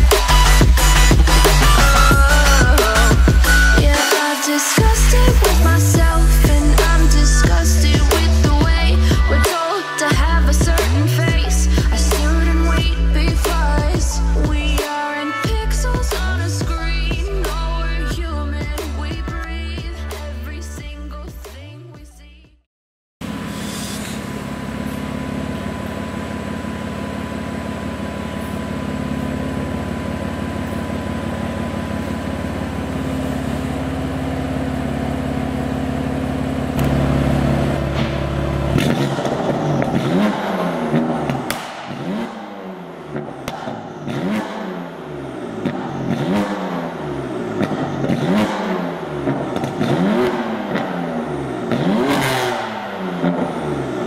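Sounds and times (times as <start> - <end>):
car engine revving: 0.0 - 9.5, 10.1 - 14.8, 23.2 - 54.0
car engine idling: 0.0 - 14.8, 23.2 - 54.0.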